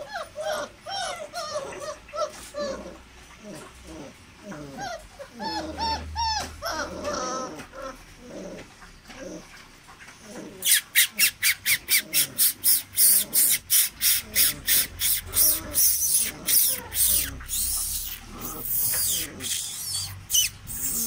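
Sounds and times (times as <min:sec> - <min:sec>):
puppies whining and yipping: 0:00.0 - 0:21.0.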